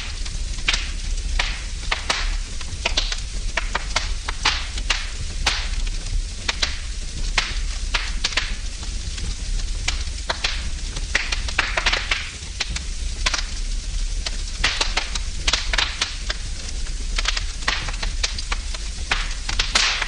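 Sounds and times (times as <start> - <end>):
fire hiss and low rumble: 0.0 - 20.0
wood fire crackling: 0.0 - 20.0.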